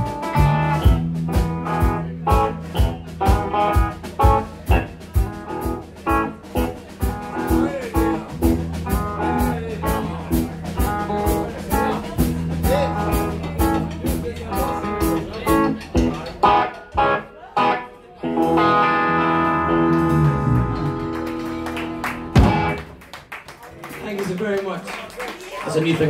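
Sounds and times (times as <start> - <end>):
electric bass: 0.0 - 17.2, 18.2 - 22.8
drum kit beat: 0.0 - 23.0
electric guitar: 0.0 - 23.0.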